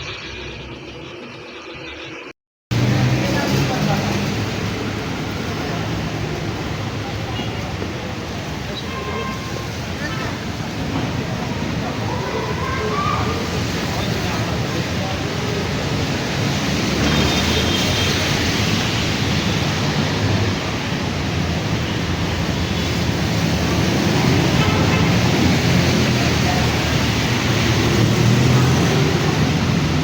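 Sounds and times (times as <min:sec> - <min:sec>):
traffic rumbling: 0:00.0 - 0:30.0.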